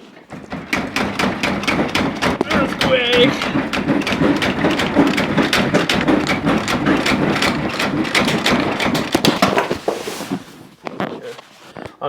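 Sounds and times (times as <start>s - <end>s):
vending machine rattling and knocking: 0.0s - 10.8s.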